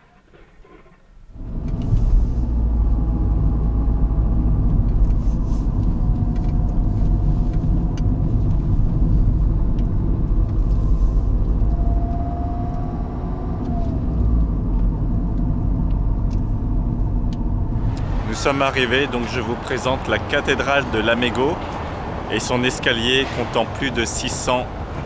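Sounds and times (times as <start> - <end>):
engine and tyre rumble: 0.0 - 25.0.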